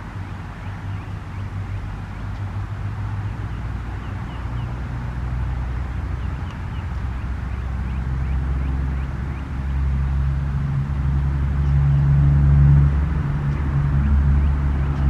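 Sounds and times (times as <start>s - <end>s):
small birds chirping: 0.0s - 10.5s, 12.9s - 15.0s
low steady rumble: 0.0s - 15.0s.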